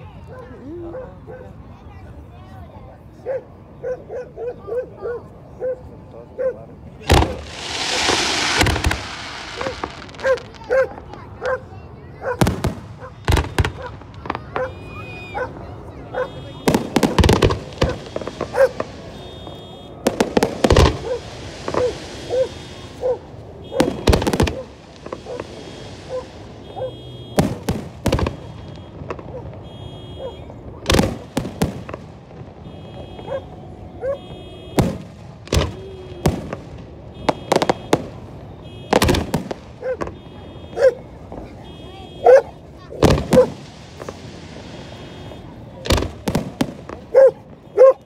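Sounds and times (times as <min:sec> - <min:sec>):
fireworks bangs: 0:06.7 - 0:48.0
fireworks hissing crackle: 0:06.8 - 0:29.9, 0:30.5 - 0:33.8, 0:34.7 - 0:47.8.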